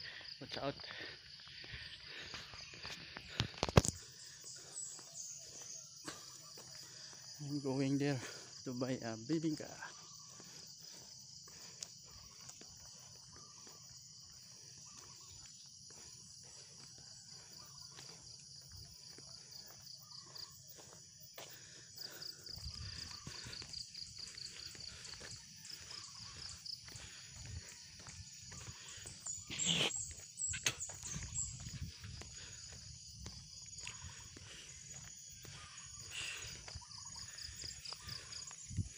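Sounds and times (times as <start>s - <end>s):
jogger's footsteps: 0.0s - 8.7s, 9.3s - 38.9s
high-pitched insect chorus: 0.0s - 38.9s
pulsing insect chirp: 0.0s - 38.9s.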